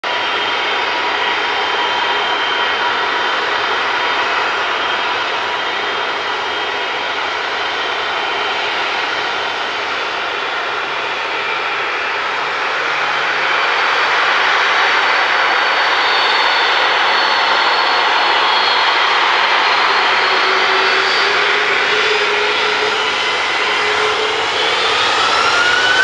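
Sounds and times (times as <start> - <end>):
jet engines running: 0.1 - 26.0.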